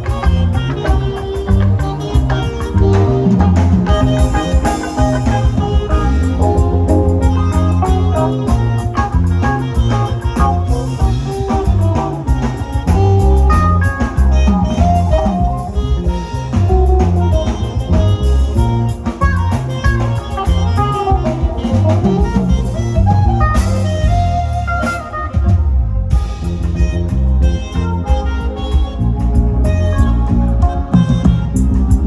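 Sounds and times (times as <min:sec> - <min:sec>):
bass notes: 0:00.0 - 0:32.0
drum kit: 0:00.0 - 0:32.0
guitar melody: 0:00.0 - 0:32.0.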